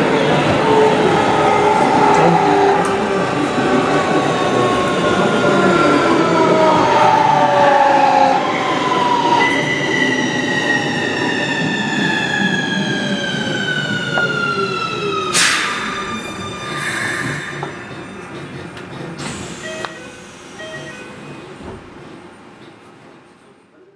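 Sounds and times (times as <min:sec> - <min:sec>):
train inverter whining: 0:00.0 - 0:22.2.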